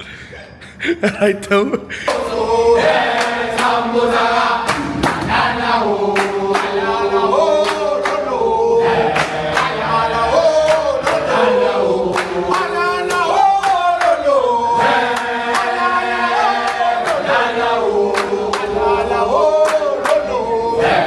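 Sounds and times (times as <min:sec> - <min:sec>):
men singing in chorus: 0:02.1 - 0:21.0.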